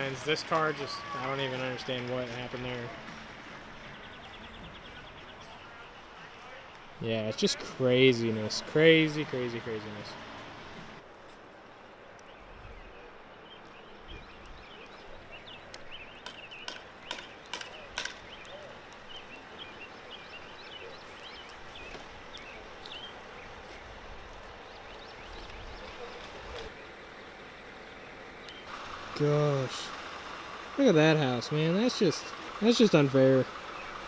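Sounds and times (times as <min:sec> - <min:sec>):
small birds chirping: 0:00.0 - 0:11.0, 0:12.0 - 0:34.0
outdoor background hiss: 0:00.0 - 0:34.0.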